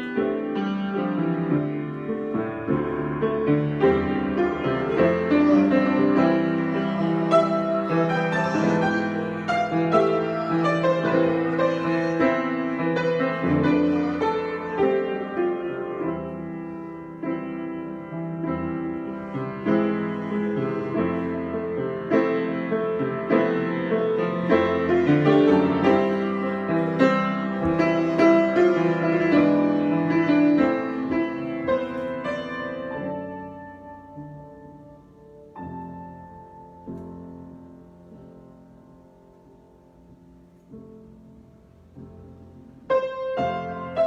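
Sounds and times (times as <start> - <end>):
solo piano improvisation: 0.0 - 44.0.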